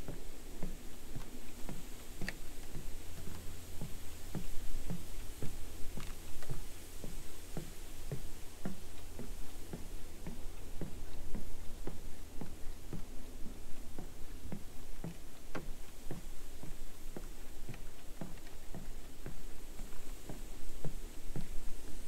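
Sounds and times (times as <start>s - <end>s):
footsteps on wooden planks: 0.0s - 22.0s.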